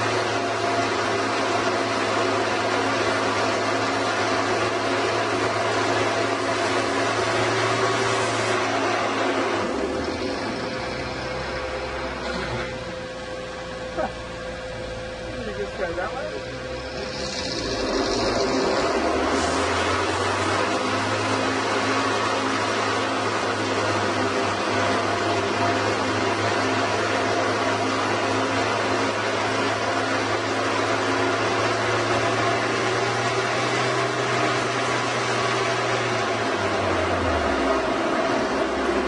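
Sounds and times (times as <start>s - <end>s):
machine drone with tones: 0.0s - 39.0s.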